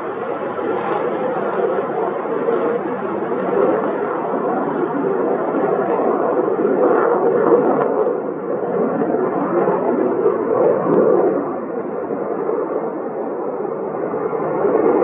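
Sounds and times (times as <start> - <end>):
fighter jet engine roaring: 0.0 - 15.0.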